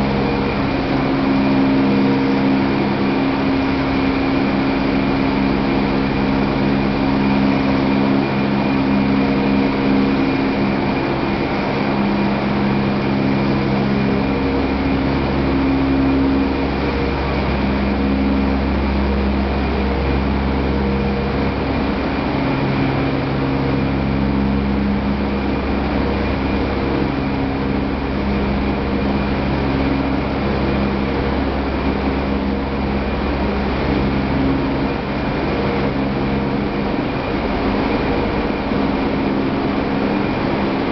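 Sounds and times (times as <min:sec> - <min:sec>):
deeper drone: 0:00.0 - 0:40.9
processing machinery humming: 0:00.0 - 0:40.9.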